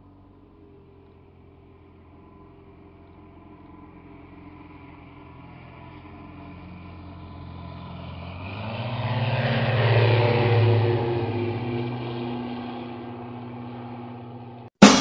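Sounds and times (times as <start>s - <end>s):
light aircraft engine and propeller: 0.0s - 14.7s.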